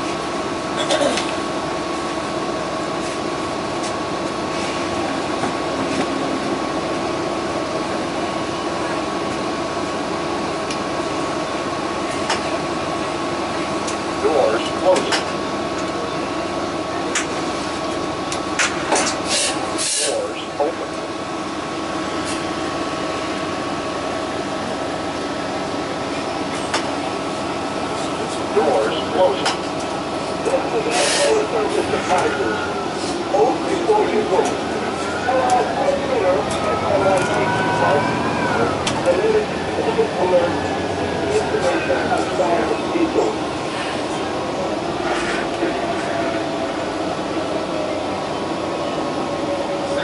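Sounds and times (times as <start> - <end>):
bus engine idling: 0.0 - 50.0.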